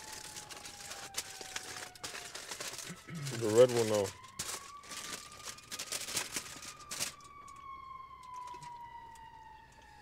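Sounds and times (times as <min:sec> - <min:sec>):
sharp clicks and crinkles: 0:00.0 - 0:09.9
distant siren: 0:00.0 - 0:10.0.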